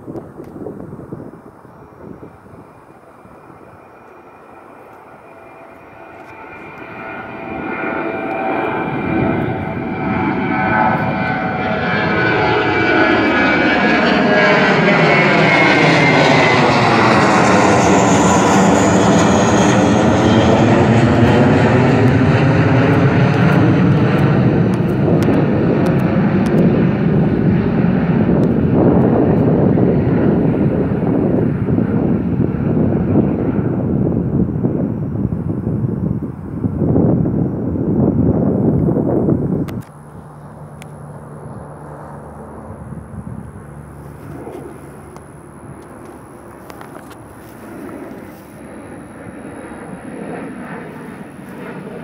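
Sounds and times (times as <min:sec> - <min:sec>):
jet airliner engines: 0:00.0 - 0:52.0.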